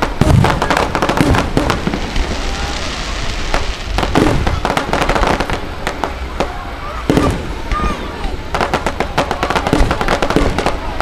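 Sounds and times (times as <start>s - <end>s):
firework bangs: 0.0s - 11.0s
firework crackling: 0.0s - 11.0s
firework fountain hiss: 0.0s - 11.0s.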